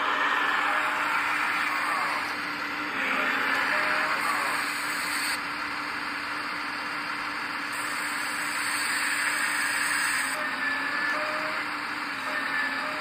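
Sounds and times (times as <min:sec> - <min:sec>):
hydraulic pump hiss and hum: 0:00.0 - 0:06.1, 0:07.7 - 0:13.0.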